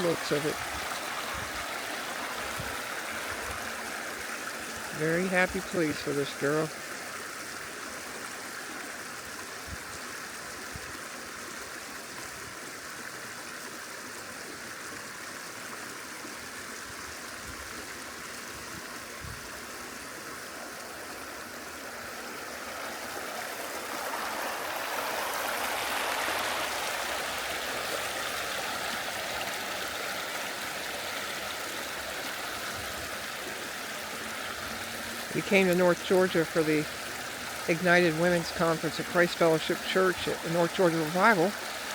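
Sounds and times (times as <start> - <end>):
stream babbling: 0.0 - 41.9.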